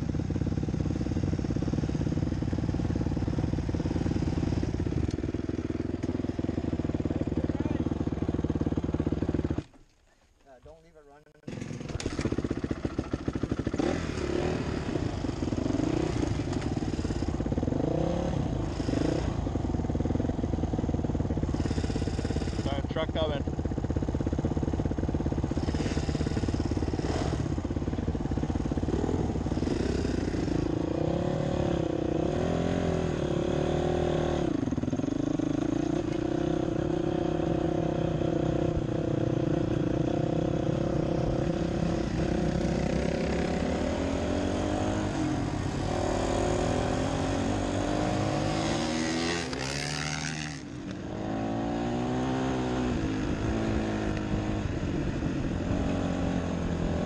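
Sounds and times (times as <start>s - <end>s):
dirt bike engine revving: 0.0s - 9.8s, 11.4s - 57.0s.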